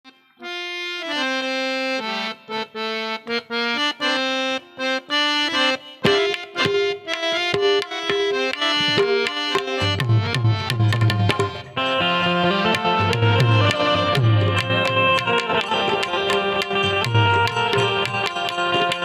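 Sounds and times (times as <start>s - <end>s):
harmonium melody: 0.0s - 19.0s.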